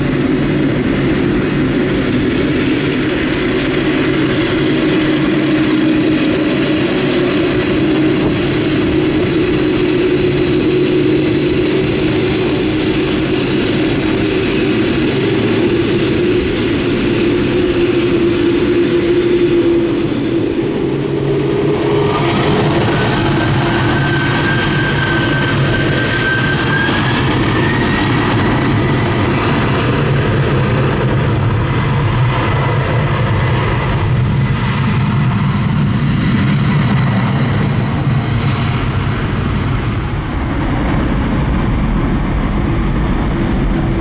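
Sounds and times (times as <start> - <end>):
jet engines running: 0.0 - 44.0
rising whine: 0.0 - 44.0.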